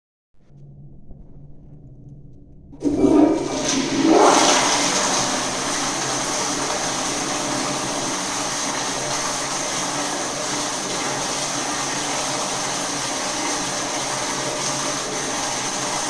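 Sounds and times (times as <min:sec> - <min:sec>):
toilet flushing: 0:02.8 - 0:16.0.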